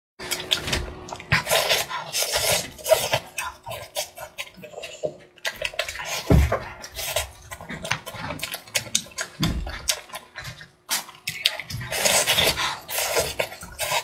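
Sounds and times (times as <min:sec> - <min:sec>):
chewing and crunching: 0:00.2 - 0:14.0.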